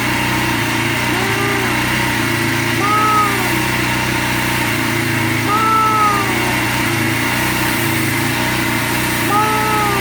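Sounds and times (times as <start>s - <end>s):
pressure washer engine running: 0.0s - 10.0s.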